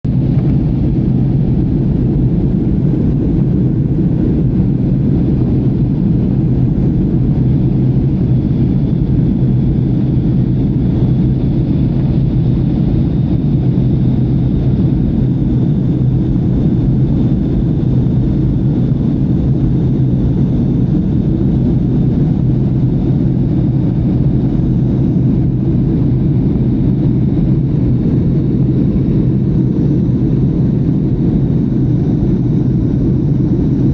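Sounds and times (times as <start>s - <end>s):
airplane cabin engine rumble: 0.1s - 33.9s.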